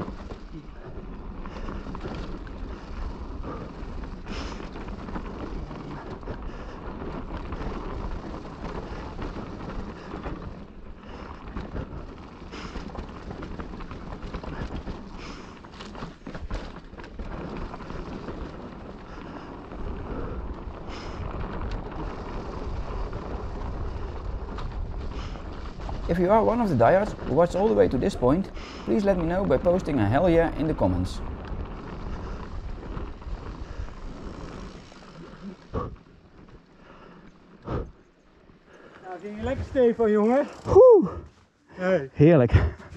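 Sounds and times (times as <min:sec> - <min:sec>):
bike knocking and rattling: 0:00.0 - 0:41.2
bike tyres rumbling on dirt: 0:00.0 - 0:41.6.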